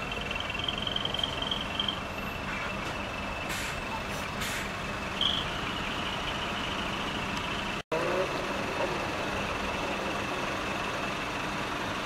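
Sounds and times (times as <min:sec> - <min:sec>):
diesel truck engines running: 0:00.0 - 0:12.0.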